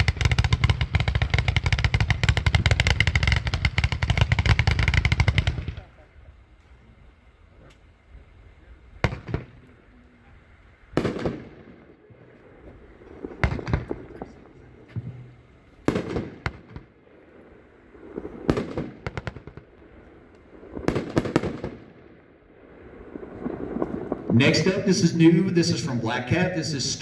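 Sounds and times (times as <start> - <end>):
firework volleys of bangs: 0.0 - 6.6, 8.9 - 9.7, 10.8 - 27.0.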